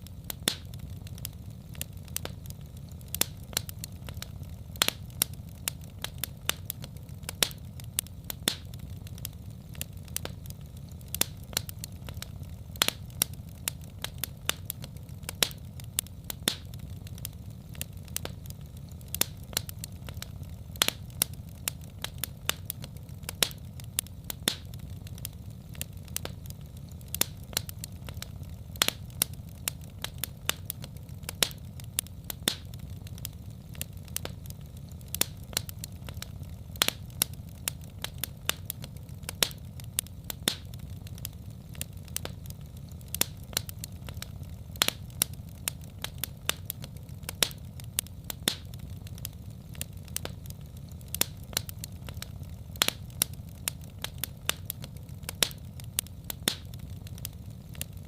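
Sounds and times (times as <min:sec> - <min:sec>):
low fire rumble: 0:00.0 - 0:58.0
wood fire crackling: 0:00.0 - 0:58.0.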